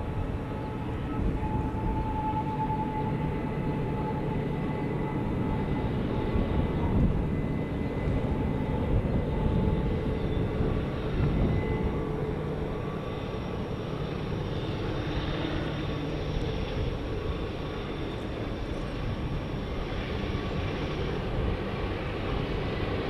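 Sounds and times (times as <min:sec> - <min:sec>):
faint whining tones: 0:00.0 - 0:23.0.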